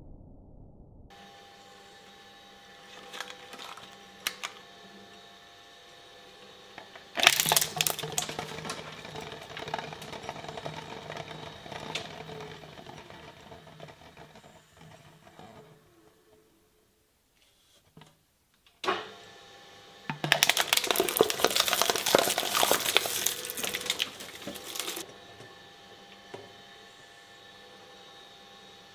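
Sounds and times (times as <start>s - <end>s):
shredder motor humming: 1.1s - 17.0s, 18.8s - 28.9s.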